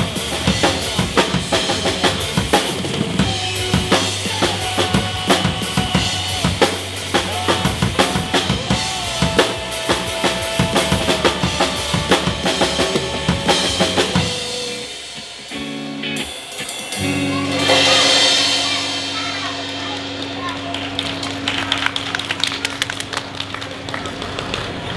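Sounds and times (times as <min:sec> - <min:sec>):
live drum kit: 0:00.0 - 0:23.8
rock backing track: 0:00.0 - 0:23.9
swell of noise: 0:00.0 - 0:24.9.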